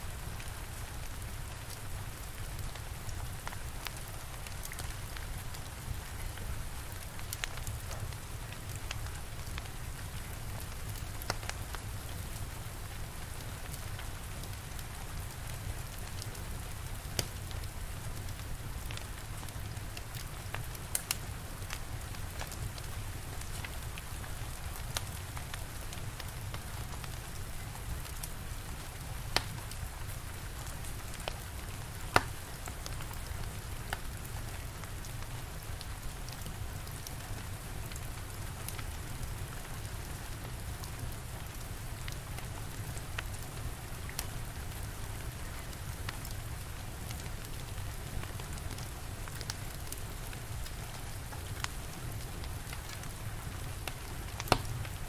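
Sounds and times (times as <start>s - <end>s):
steady rain: 0.0s - 55.0s
wood fire crackling: 0.1s - 55.0s.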